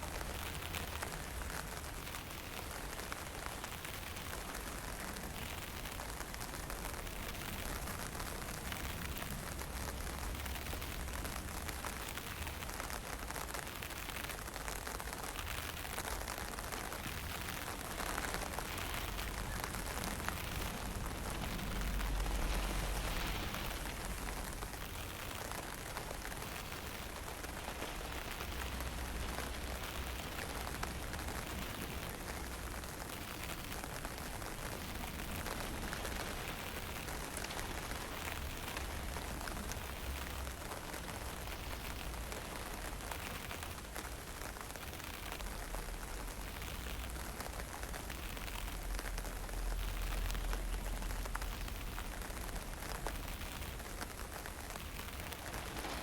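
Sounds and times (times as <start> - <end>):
light rain hissing: 0.0 - 56.0.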